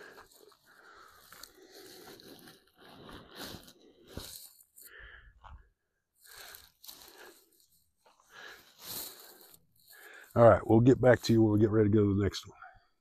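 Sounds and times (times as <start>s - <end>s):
footsteps crunching on rough ground: 0.0s - 11.4s.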